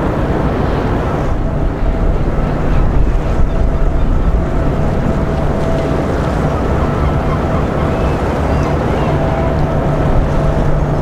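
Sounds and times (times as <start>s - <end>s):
ship engine rumble: 0.0s - 11.0s
wind buffeting microphone: 0.0s - 11.0s.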